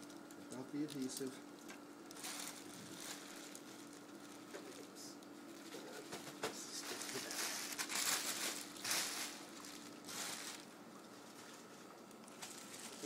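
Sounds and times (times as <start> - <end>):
faint steady hum: 0.0 - 13.0
plastic drape crinkling: 0.0 - 13.0.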